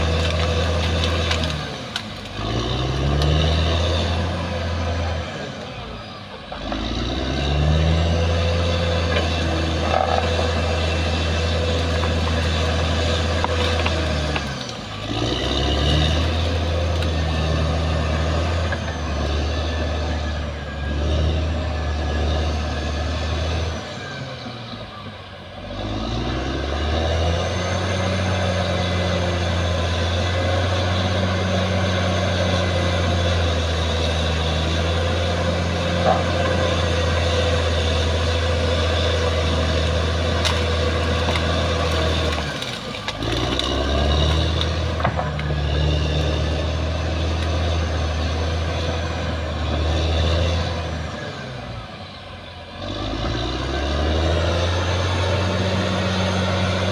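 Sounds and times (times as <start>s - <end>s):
bulldozer diesel engine: 0.0s - 56.9s.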